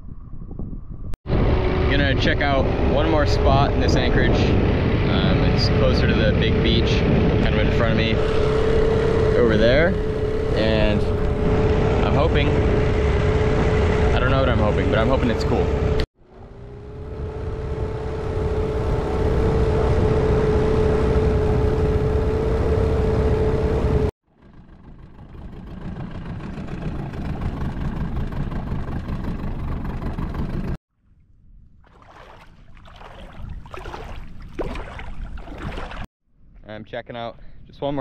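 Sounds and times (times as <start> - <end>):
outboard motor rumbling: 1.3 - 30.8, 31.8 - 36.1.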